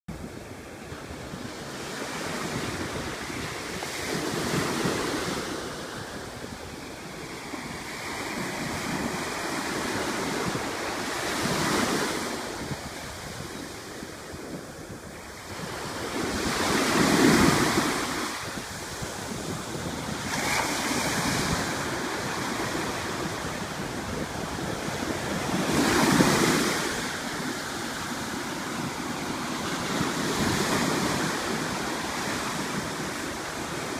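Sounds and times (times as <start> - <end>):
ocean waves breaking: 0.2 - 33.9.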